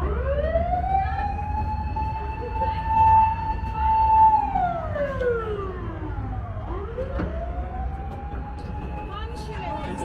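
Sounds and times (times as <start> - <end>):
emergency siren wailing: 0.0 - 10.0
low street rumble: 0.0 - 10.0.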